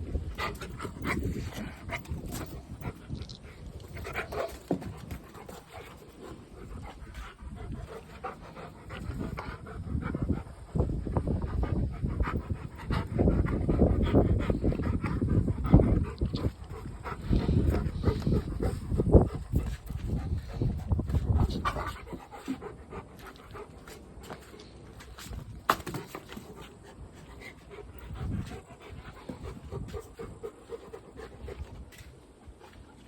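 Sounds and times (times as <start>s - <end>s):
dog panting: 0.1s - 33.0s.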